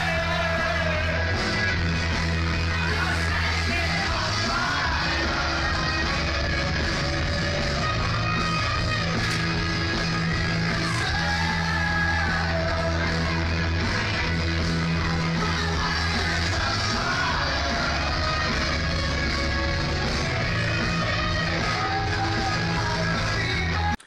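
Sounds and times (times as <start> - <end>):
music with prominent bass line: 0.0 - 24.0.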